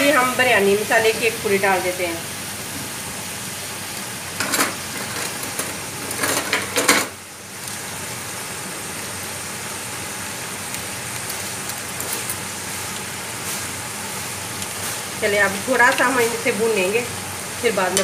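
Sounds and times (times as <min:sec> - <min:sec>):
ghee sizzling in a pot: 0:00.0 - 0:18.0.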